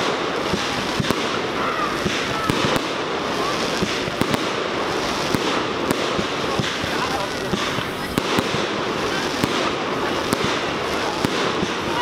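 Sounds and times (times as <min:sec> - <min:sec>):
fireworks exploding: 0:00.0 - 0:12.0
sharp firework bangs: 0:00.0 - 0:12.0.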